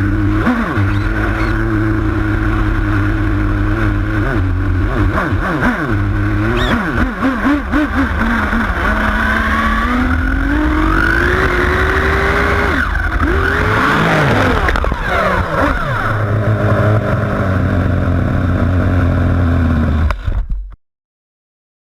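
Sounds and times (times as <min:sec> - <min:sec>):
small nitro engine revving: 0:00.0 - 0:19.9.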